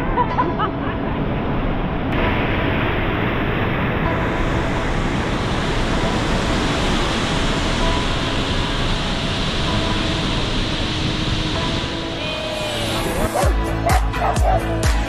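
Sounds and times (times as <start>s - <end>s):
waterfall rushing: 1.2s - 15.0s.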